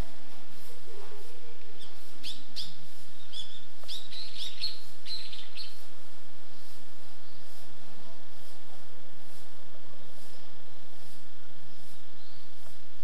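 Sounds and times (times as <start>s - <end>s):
songbird chirping: 0.0s - 13.0s
steady background hiss: 0.0s - 13.0s.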